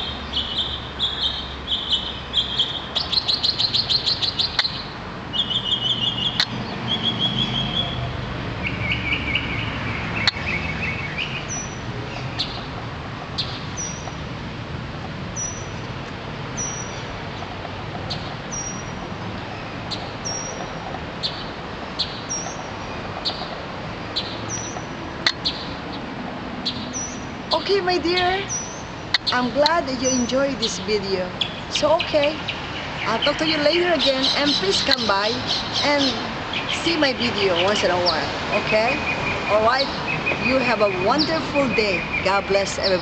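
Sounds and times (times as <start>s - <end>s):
songbirds trilling and singing: 0.0s - 14.3s, 15.3s - 43.0s.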